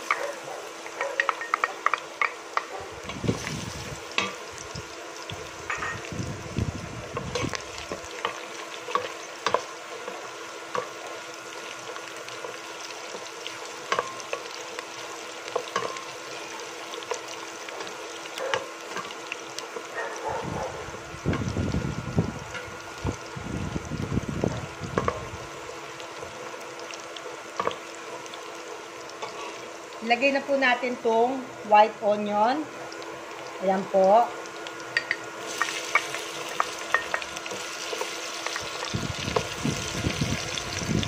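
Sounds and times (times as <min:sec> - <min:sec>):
garlic sizzling in oil: 0:00.0 - 0:41.0.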